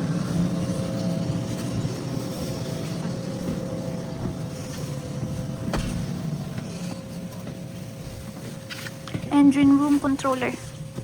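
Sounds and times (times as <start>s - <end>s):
low machinery rumble: 0.0s - 11.0s.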